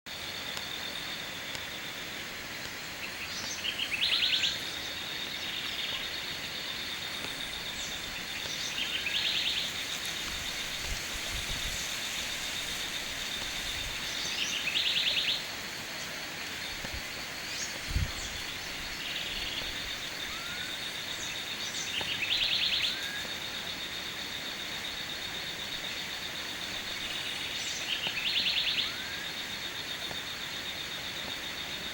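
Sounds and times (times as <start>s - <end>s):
background hiss: 0.1s - 31.9s
insects high-pitched drone: 0.1s - 31.9s
rapid pulsing insect call: 0.1s - 31.9s.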